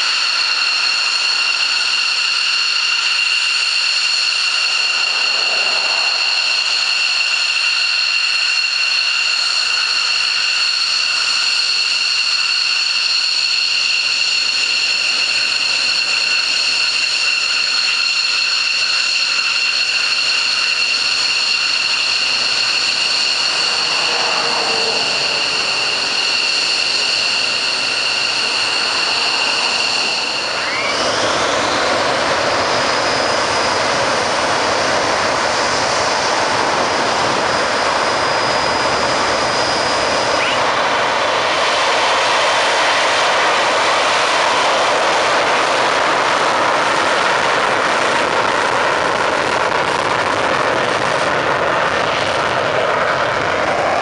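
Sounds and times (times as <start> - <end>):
jet engine rushing: 0.0 - 54.0
jet engines piercing whine: 0.0 - 54.0.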